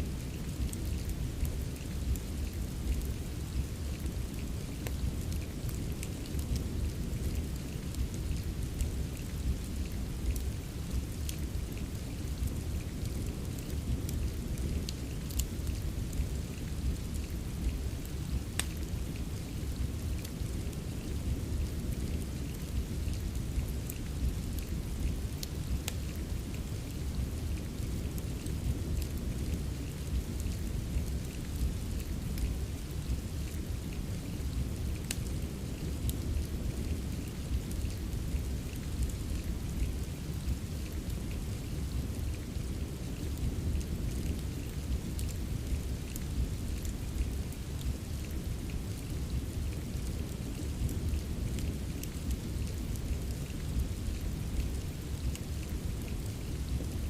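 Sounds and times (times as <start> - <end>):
rain falling: 0.0 - 57.0
wood fire crackling and popping: 0.1 - 57.0.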